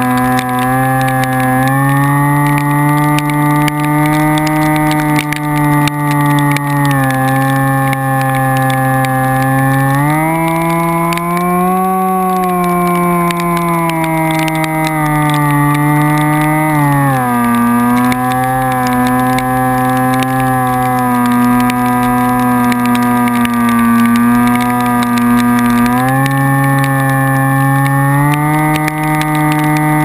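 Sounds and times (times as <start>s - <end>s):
faint ticks: 0.0s - 30.0s
vehicle engine running: 0.0s - 30.0s.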